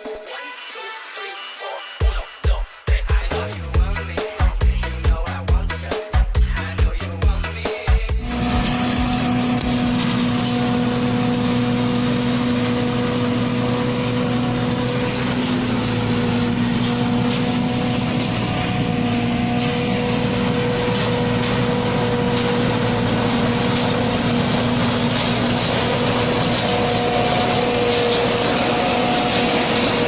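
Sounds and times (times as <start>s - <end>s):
combine harvester running: 3.1s - 30.0s.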